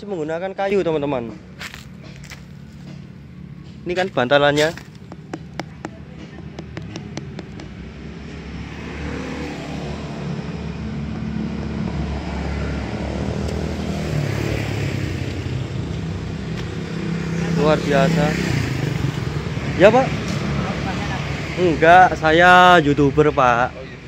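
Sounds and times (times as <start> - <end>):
vehicle engine passing: 1.0 - 23.6.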